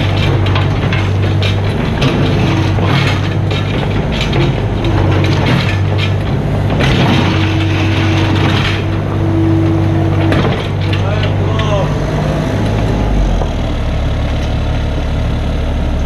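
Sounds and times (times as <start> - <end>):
metal clanks and scrapes: 0.0 - 13.8
diesel engine running: 0.0 - 16.0
steady whine: 0.0 - 16.0.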